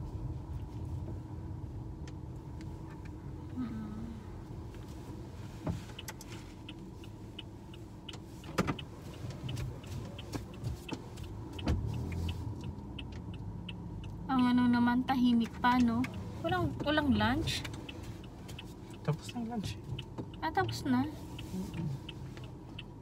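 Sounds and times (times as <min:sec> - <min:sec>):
car cabin rumble: 0:00.0 - 0:23.0.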